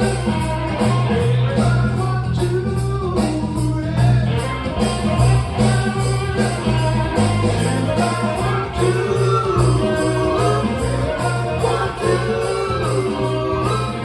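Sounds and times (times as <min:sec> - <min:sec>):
guitar: 0:00.0 - 0:14.0
pulsing bass beat: 0:00.0 - 0:14.0.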